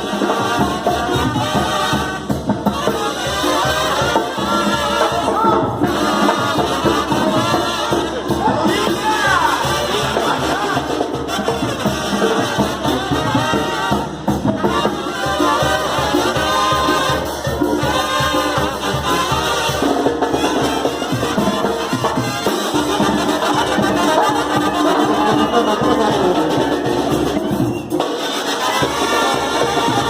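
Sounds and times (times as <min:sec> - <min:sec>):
latin dance music with brass: 0:00.0 - 0:30.0
steady drum beat: 0:00.0 - 0:30.0.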